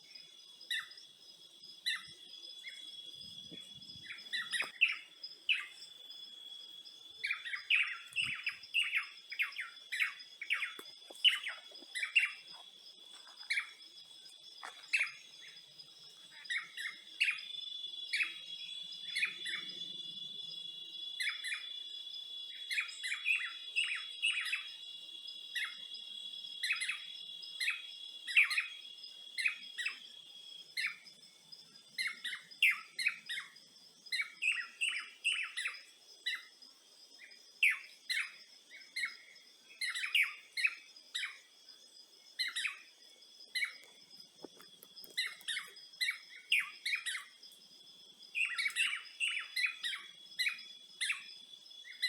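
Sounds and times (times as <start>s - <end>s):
birds chirping: 0.0s - 30.2s, 37.2s - 47.5s, 48.2s - 52.0s.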